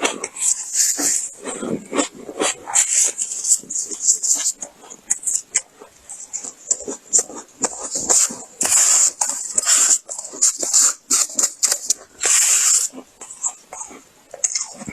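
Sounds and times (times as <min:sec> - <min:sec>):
crunching and chewing frost: 0:00.0 - 0:14.9.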